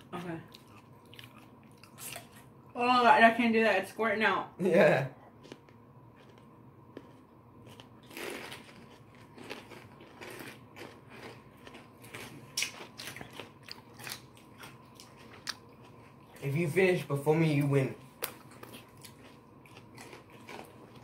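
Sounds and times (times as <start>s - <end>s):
chewing and crunching: 0.0s - 2.5s, 5.2s - 16.8s, 17.5s - 21.0s.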